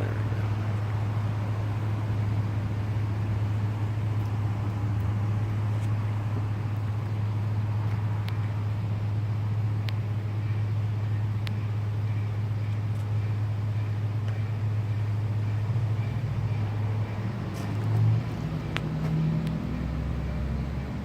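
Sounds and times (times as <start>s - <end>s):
bees humming drone: 0.0s - 21.0s.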